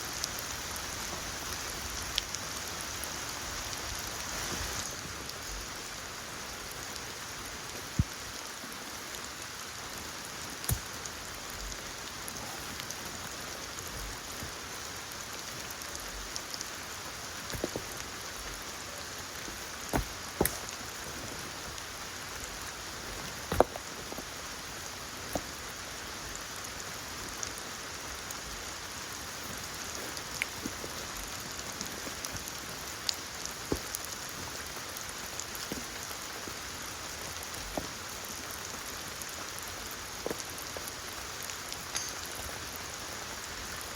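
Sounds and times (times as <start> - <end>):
steady rain in forest: 0.0 - 43.9.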